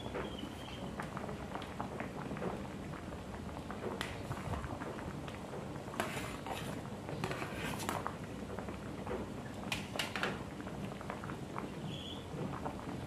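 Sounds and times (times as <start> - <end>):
rustle and splash into broth: 0.0 - 13.0
soup boiling and bubbling: 0.0 - 13.0.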